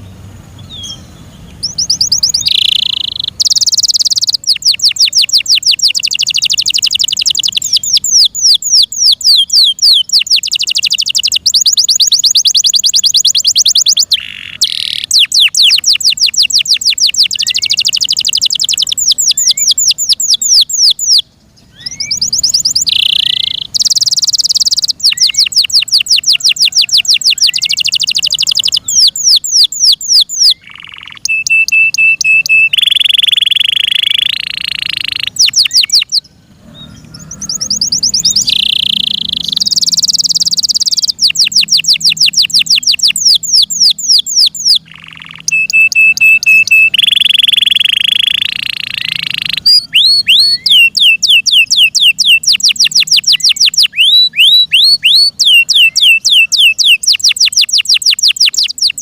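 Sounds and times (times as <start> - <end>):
canary singing rapid trills: 0.0 - 59.0
canary held whistle: 1.6 - 36.2, 37.2 - 59.0.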